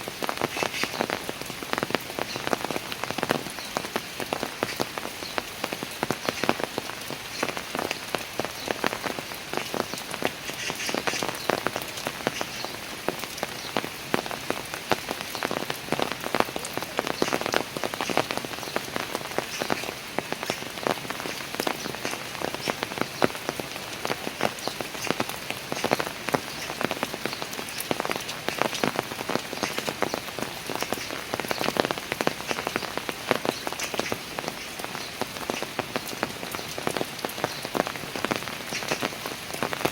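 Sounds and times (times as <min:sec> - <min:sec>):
rain hissing: 0:00.0 - 0:39.9
raindrops hitting stairs: 0:00.0 - 0:39.9.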